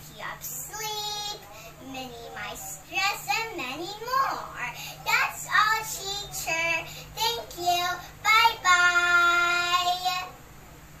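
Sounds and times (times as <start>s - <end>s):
girl singing: 0.0s - 10.4s.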